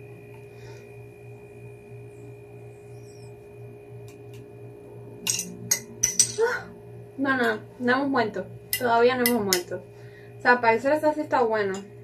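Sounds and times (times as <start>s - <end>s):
faint high whine: 0.0s - 12.0s
low electrical hum: 0.0s - 12.0s.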